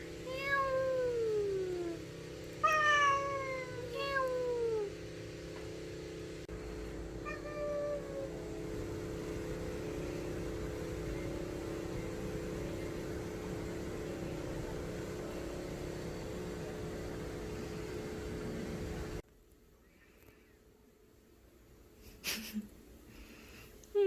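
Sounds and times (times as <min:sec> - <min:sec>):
mechanical hum with low rumble: 0:00.0 - 0:24.0.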